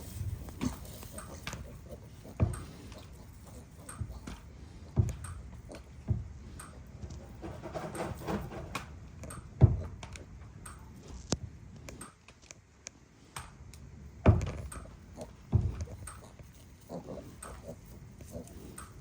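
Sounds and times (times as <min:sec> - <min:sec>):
animals knocking and thumping: 0:00.0 - 0:11.0, 0:14.2 - 0:19.0.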